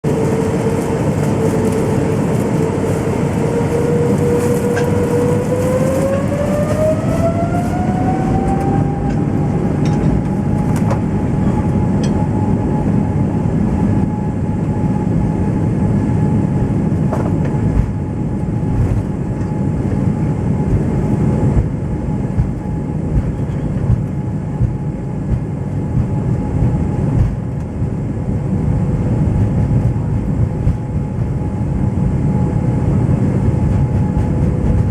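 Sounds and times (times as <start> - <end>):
jet engines spooling up: 0.1 - 34.9.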